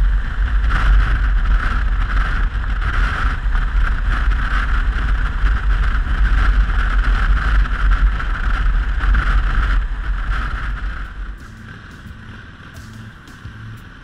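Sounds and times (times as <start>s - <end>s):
motorcycle engine rumble: 0.0s - 14.0s
wind over microphone: 0.0s - 14.0s.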